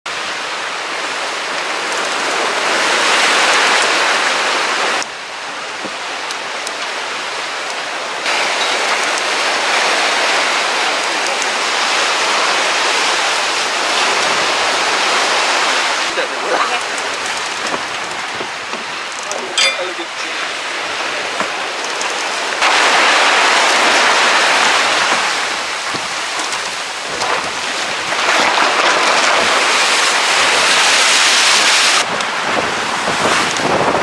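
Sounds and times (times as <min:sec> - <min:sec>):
wind and rain at sea: 0:00.1 - 0:34.0.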